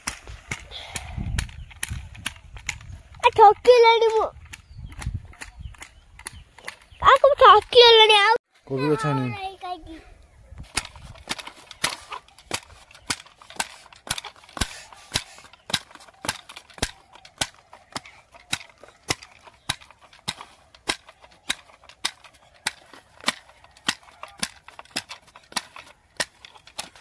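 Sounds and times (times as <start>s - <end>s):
hoe striking hard soil: 0.0s - 7.6s, 10.6s - 27.0s.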